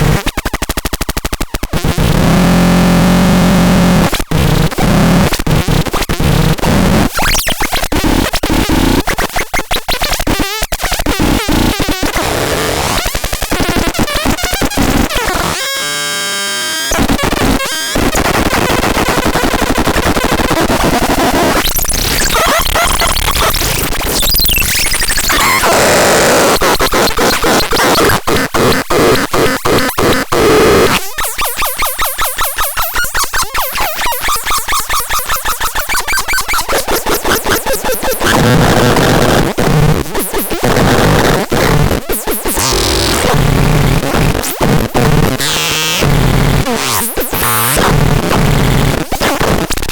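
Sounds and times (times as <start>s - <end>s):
harsh distorted electronic noise: 0.0s - 49.9s.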